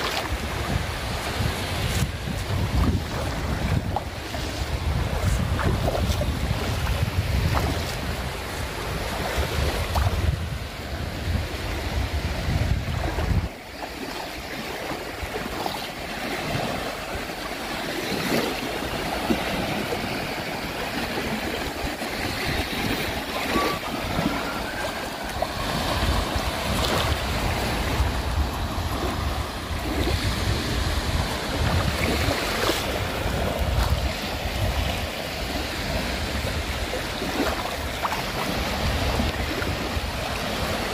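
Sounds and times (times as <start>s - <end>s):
sea surf washing: 0.0s - 40.9s
wind buffeting the microphone: 0.0s - 40.9s.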